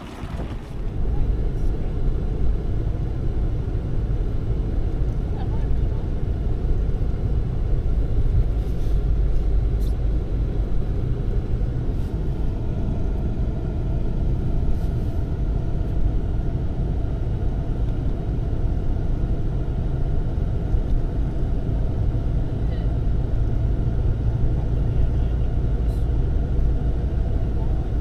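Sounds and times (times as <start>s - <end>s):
car road and tyre noise: 0.0s - 28.0s.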